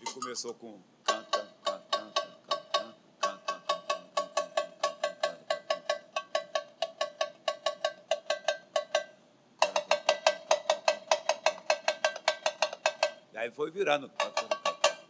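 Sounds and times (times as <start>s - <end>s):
frame drum struck with stick: 0.0s - 13.3s, 14.0s - 15.0s.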